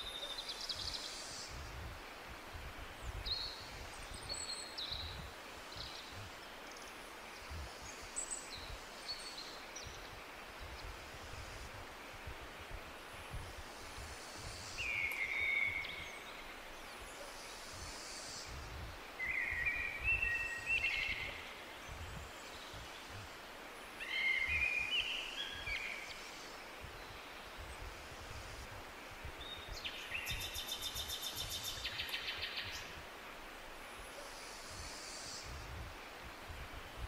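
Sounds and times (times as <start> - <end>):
low wind rumble: 0.0 - 37.0
songbird singing: 0.0 - 37.0.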